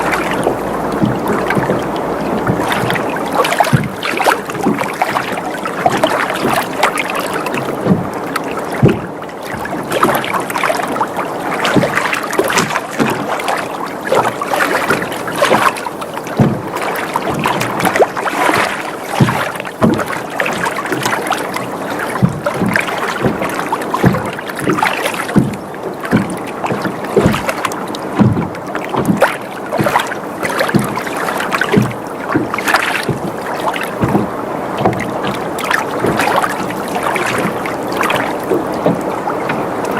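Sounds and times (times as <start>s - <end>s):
slaps and knocks of rocking boat: 0.0s - 39.9s
water lapping against boat hull: 0.0s - 39.9s.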